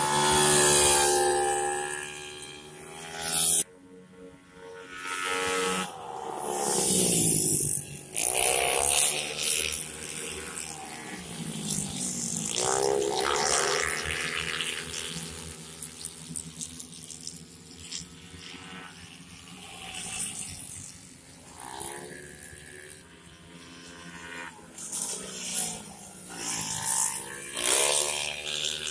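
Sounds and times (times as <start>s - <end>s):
race motorcycles passing: 0.0s - 28.9s.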